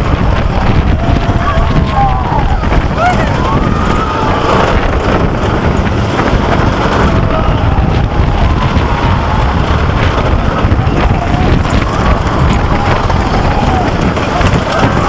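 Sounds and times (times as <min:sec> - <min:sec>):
roller coaster cars clattering: 0:00.0 - 0:15.0
wind rushing over microphone: 0:00.0 - 0:15.0.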